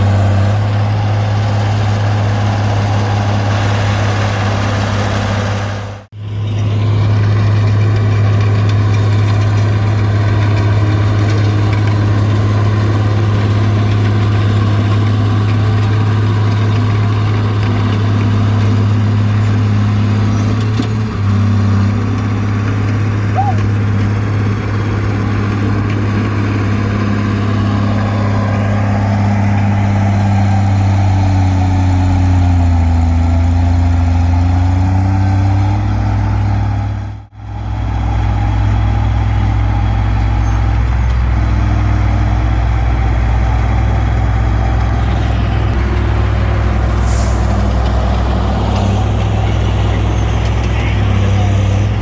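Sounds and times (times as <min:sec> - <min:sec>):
bulldozer diesel engine under load: 0:00.0 - 0:52.0.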